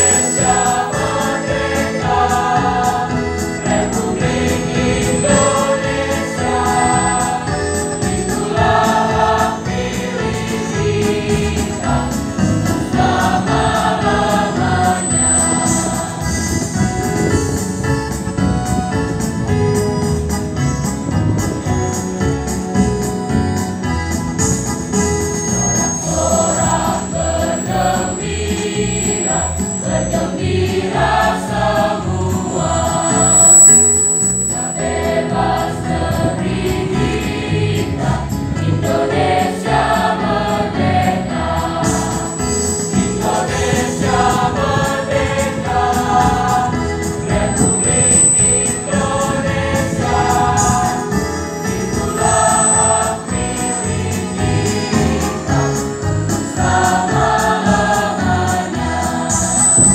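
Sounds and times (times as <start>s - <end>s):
children's choir singing in harmony: 0.0s - 17.8s, 24.9s - 59.9s
electronic keyboard: 0.0s - 59.9s.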